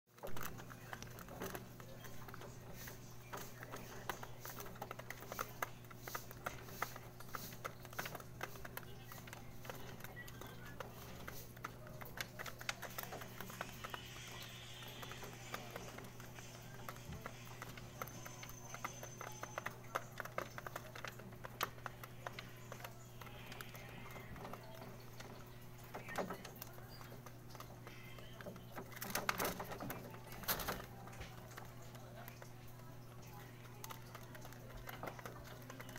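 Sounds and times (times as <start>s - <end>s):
pigeons pecking feed from plastic trough: 0.1s - 35.9s.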